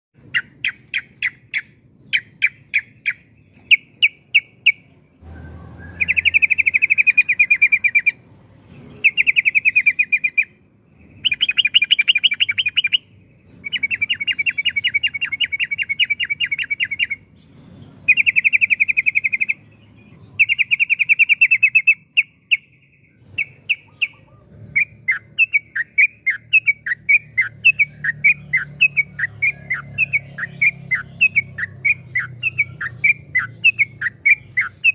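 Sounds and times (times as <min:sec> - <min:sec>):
bird singing rapid trills: 0:00.2 - 0:34.9
short bird chirps: 0:00.3 - 0:34.9.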